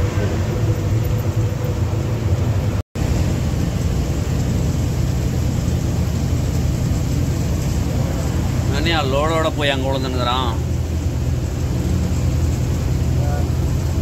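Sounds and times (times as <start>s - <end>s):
lorry engine and road noise: 0.0s - 14.0s.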